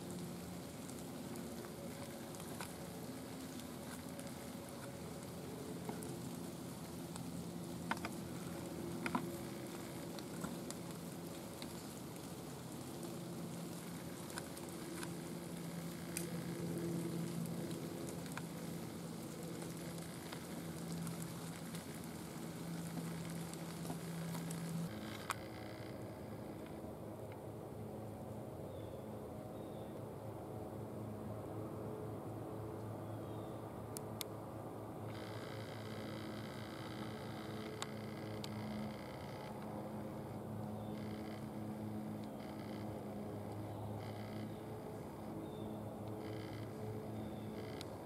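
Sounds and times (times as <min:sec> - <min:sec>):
steady hiss: 0:00.0 - 0:26.7, 0:35.0 - 0:48.0
faint low hum: 0:00.0 - 0:48.0.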